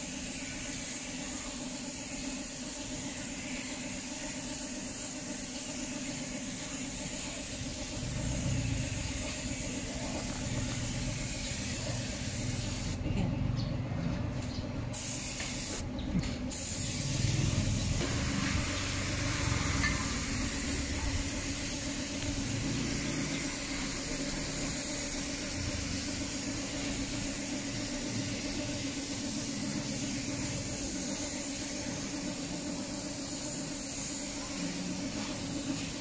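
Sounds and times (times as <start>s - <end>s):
spray gun hissing: 0.0s - 13.0s, 14.9s - 15.8s, 16.5s - 36.0s.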